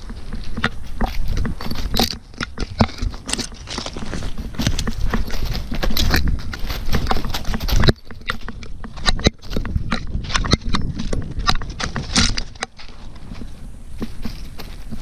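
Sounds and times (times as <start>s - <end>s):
camera knocking and rubbing: 0.0s - 15.0s
dog paws on forest floor: 0.0s - 15.0s
heavy rumble: 0.0s - 15.0s.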